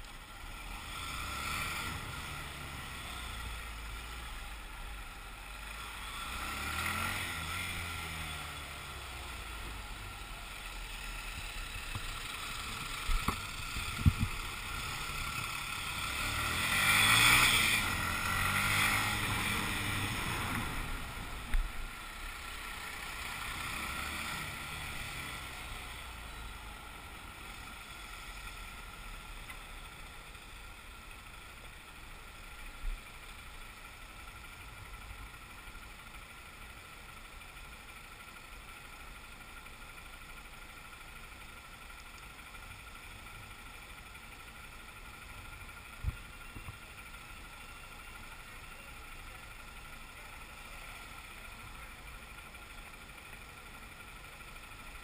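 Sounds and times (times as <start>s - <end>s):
motorcycle engine idling: 0.0s - 0.9s, 2.0s - 55.0s.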